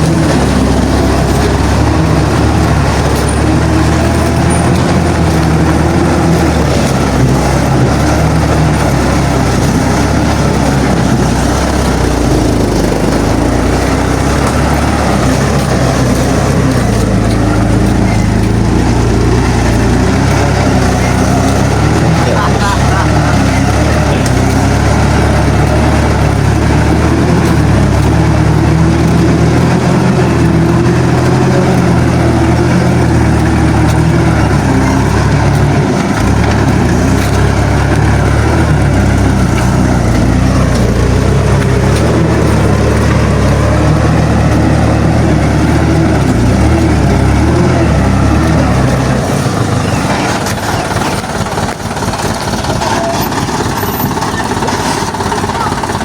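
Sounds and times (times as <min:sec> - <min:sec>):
truck engine running at low speed: 0:00.0 - 0:56.0.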